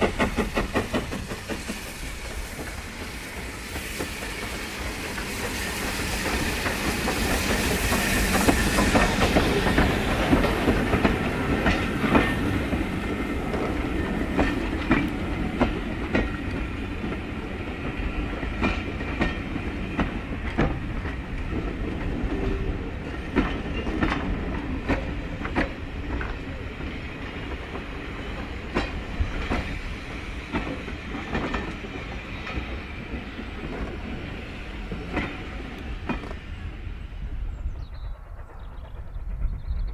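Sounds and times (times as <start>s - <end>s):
wheels clicking over rail joints: 0.0s - 5.4s, 6.0s - 29.8s, 30.5s - 36.4s
train passing on rails: 0.0s - 39.9s.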